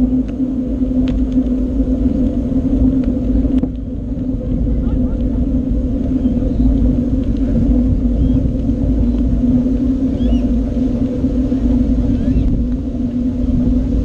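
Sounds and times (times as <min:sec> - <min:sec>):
bicycle tyre rumble: 0:00.0 - 0:14.0
constant hum: 0:00.0 - 0:14.0
wind on microphone: 0:00.0 - 0:14.0.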